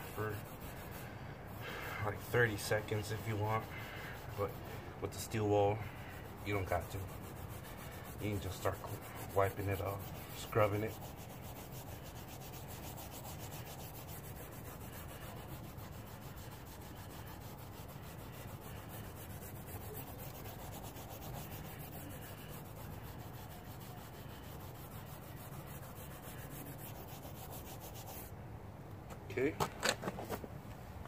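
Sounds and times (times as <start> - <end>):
steel wool scrubbing rubber: 0.0 - 28.3.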